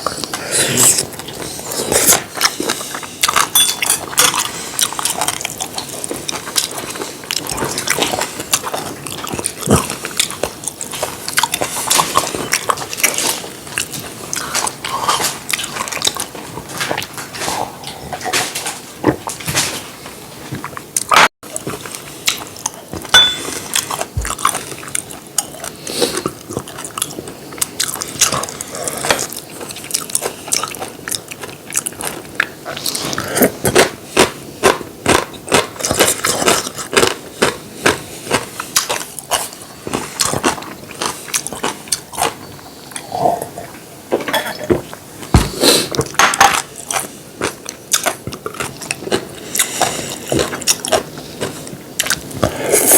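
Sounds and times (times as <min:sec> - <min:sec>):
crunching and chewing: 0:00.0 - 0:52.9.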